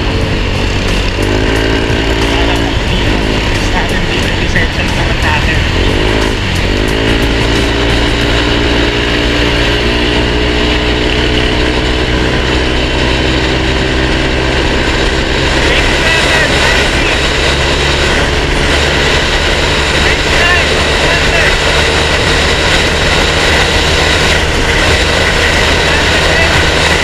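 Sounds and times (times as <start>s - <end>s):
scooter engine at full throttle: 0.0s - 27.0s
wind rush on microphone: 0.0s - 27.0s.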